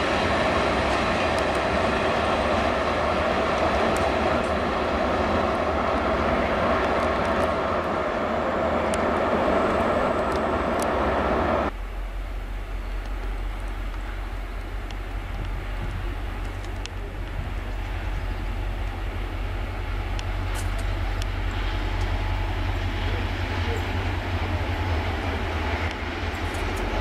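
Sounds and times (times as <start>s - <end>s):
steady low rumble: 0.0s - 27.0s
train wheels rumbling: 0.0s - 27.0s.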